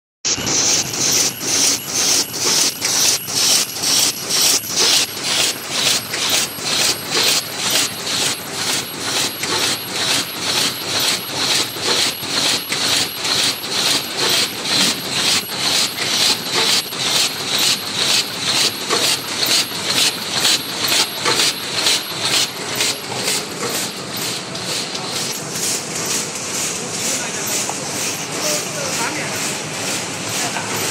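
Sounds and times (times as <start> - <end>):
machine mechanical clatter: 0.3 - 30.9.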